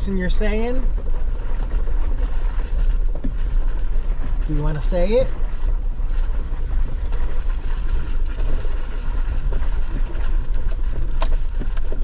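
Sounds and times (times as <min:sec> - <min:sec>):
off-road vehicle engine rumble: 0:00.0 - 0:12.0.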